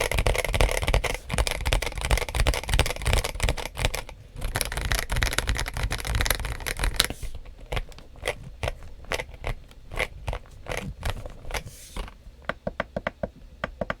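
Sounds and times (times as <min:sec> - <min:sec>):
mechanical keyboard typing: 0:00.0 - 0:14.0.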